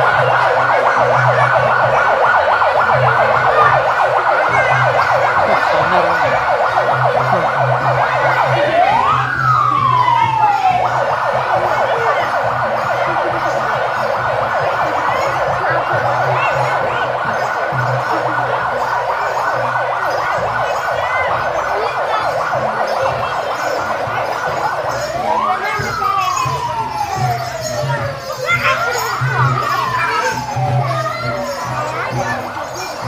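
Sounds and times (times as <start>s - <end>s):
electronic siren whooping and warbling: 0.0s - 32.2s.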